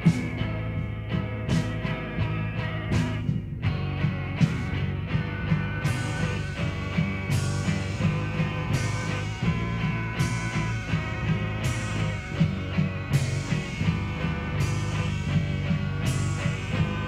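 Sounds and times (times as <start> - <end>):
heavy low riff: 0.0 - 17.0
punk rock song: 0.0 - 17.0.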